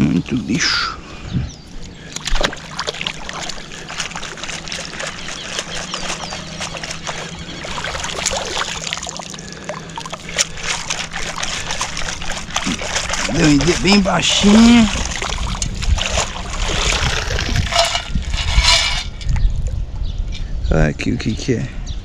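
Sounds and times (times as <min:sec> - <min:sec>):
water sloshing and splashing: 0:01.7 - 0:19.8.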